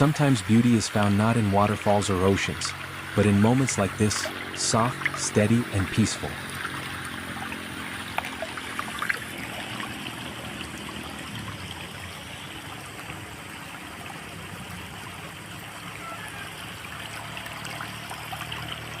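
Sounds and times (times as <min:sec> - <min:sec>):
stream of water flowing: 0:00.0 - 0:19.0
light water drips: 0:02.6 - 0:05.7, 0:06.3 - 0:19.0.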